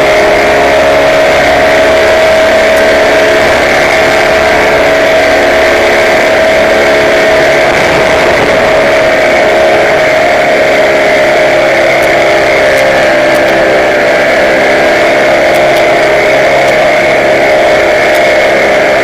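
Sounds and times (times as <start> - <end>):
light aircraft engine drone: 0.0 - 19.0.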